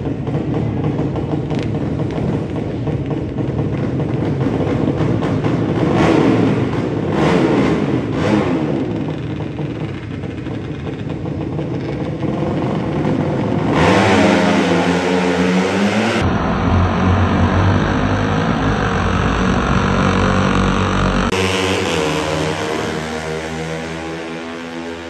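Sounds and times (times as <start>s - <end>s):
motorcycle engines revving hard: 0.0s - 25.0s.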